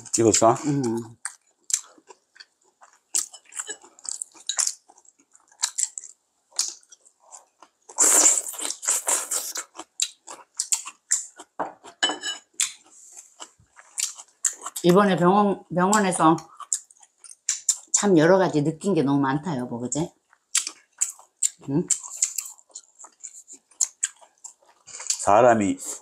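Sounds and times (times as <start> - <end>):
people chewing and crunching food: 0.0 - 18.1, 19.5 - 26.0.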